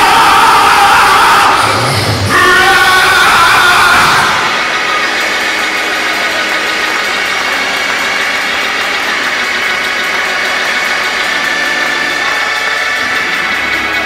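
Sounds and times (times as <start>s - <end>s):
church praise music: 0.0s - 14.0s
congregation noise: 0.0s - 14.0s.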